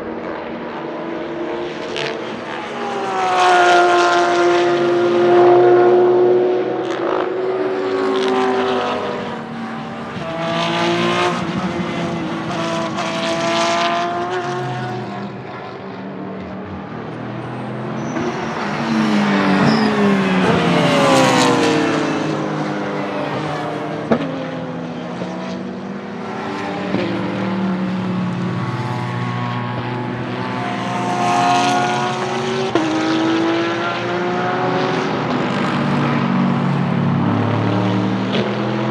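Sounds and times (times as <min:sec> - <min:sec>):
race car engines at full throttle: 0:00.0 - 0:38.9.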